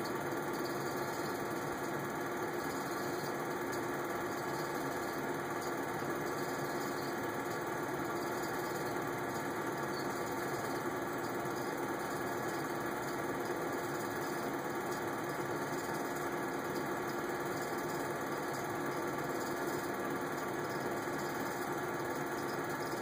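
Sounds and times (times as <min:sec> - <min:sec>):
film projector running: 0:00.0 - 0:23.0.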